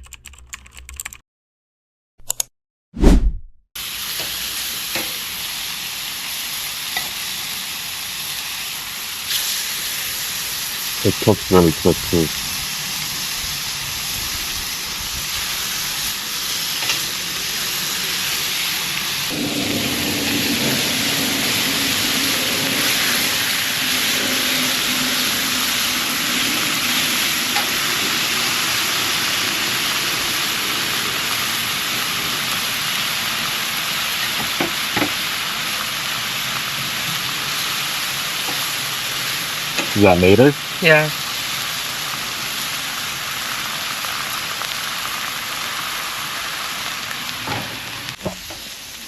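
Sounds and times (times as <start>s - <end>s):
food sizzling on a grill: 3.8s - 49.0s.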